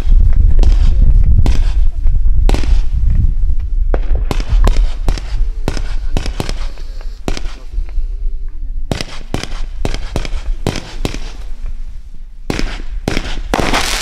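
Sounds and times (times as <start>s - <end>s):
heavy low rumble: 0.0s - 13.6s
fireworks launch reports: 0.0s - 14.0s.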